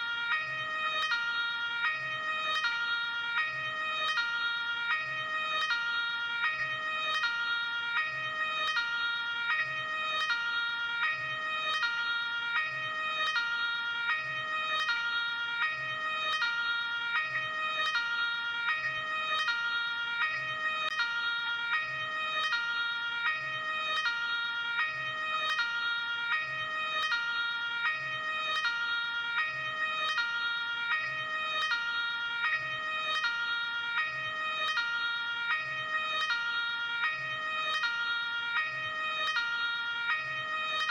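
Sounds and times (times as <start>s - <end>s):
two-tone ambulance siren: 0.0s - 40.9s.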